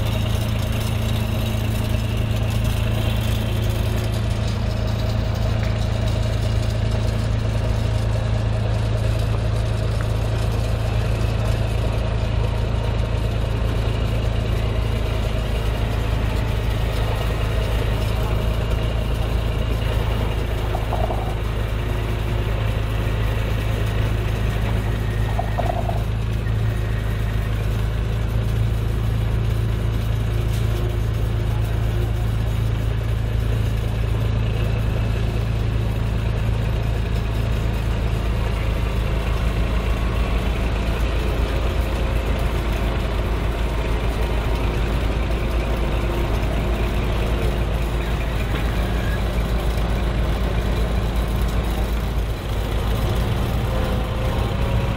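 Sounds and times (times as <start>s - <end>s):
diesel truck engine running: 0.0s - 54.9s.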